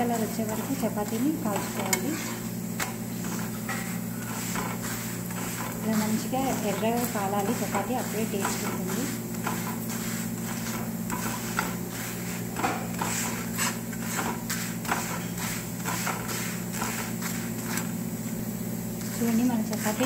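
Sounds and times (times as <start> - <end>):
spatula taps: 0.0 - 17.9
spatula scraping flat pan: 0.0 - 18.0, 19.0 - 20.0
steady low hum: 0.0 - 20.0.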